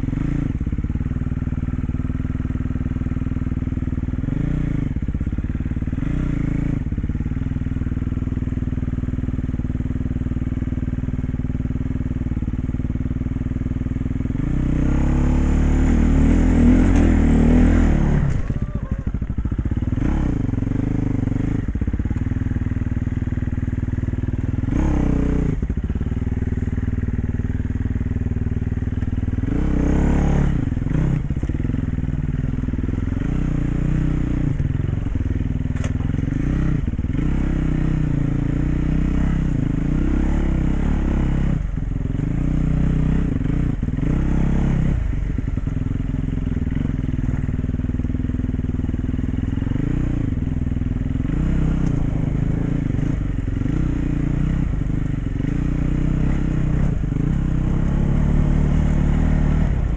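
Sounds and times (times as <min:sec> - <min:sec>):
dirt bike engine revving: 0:00.0 - 0:10.0, 0:14.2 - 0:59.9.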